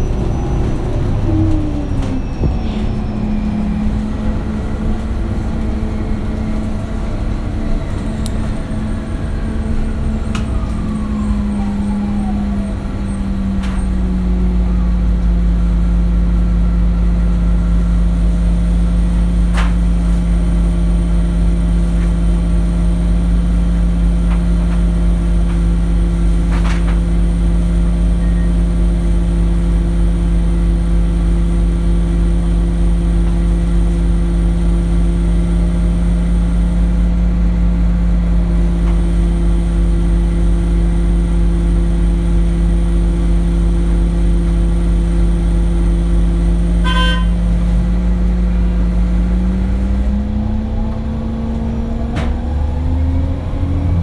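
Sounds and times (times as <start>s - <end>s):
bus engine idling: 0.0s - 54.0s.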